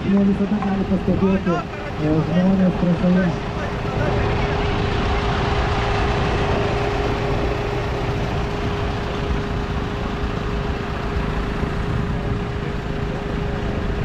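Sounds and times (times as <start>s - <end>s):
constant whine: 0.0s - 14.0s
engine rough low rumble: 0.0s - 14.0s.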